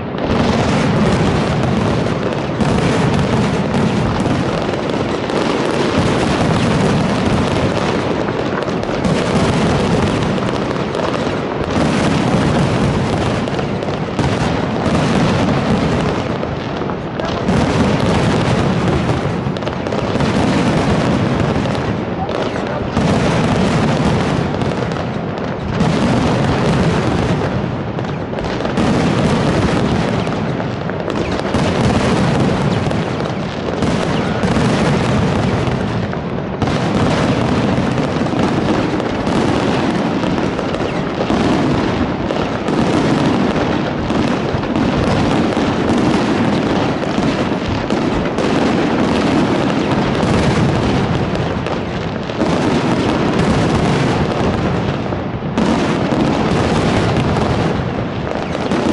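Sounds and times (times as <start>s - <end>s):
fireworks bursts and booms: 0.0s - 58.9s.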